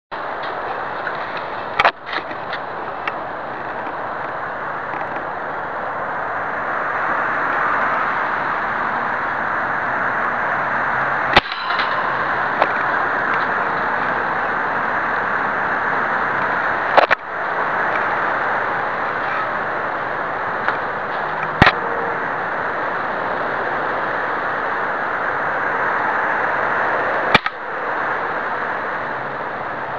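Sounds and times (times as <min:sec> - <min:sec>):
steady background hiss: 0:00.1 - 0:29.9.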